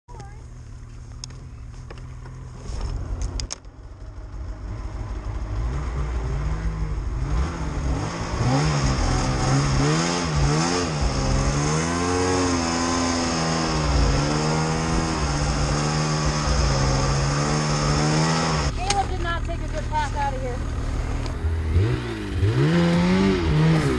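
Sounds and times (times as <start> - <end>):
snowmobile engine revving: 4.6 - 23.9.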